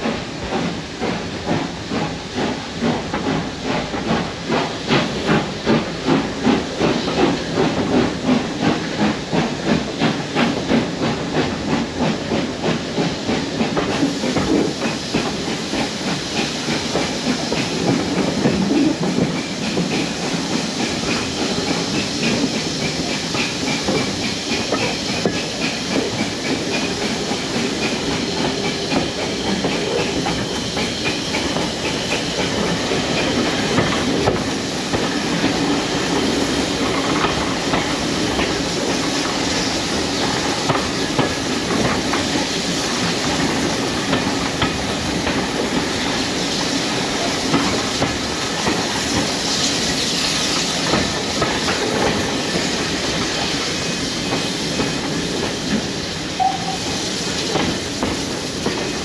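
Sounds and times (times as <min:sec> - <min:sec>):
steam hiss: 0:00.0 - 0:59.0
train rumbling: 0:00.0 - 0:59.0.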